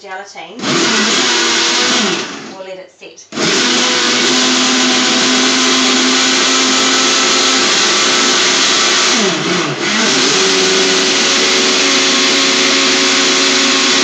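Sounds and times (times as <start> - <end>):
electric blender motor whirring: 0.6 - 2.6, 3.3 - 14.0.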